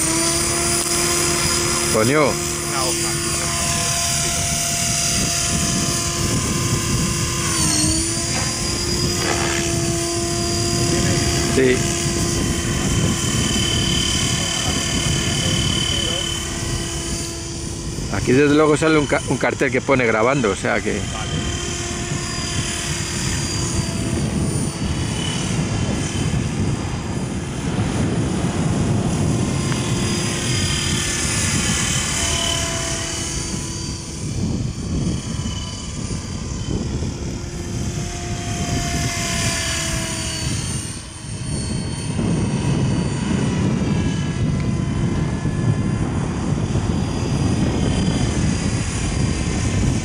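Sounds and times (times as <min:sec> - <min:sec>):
model helicopter rotor whine: 0:00.0 - 0:50.0.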